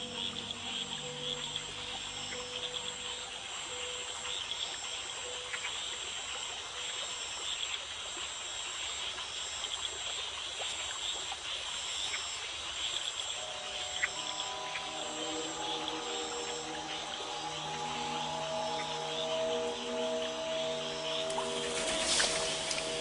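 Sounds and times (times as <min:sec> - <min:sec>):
insects trilling: 0:00.0 - 0:10.0, 0:11.0 - 0:23.0
frogs calling: 0:00.0 - 0:23.0.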